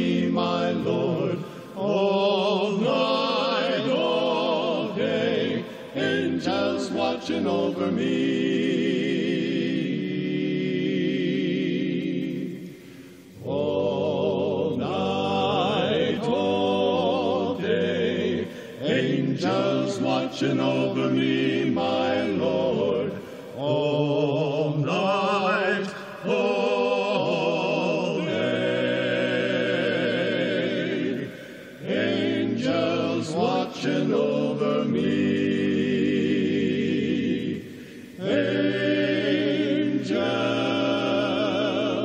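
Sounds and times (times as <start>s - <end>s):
male quartet singing a cappella: 0.0s - 42.0s.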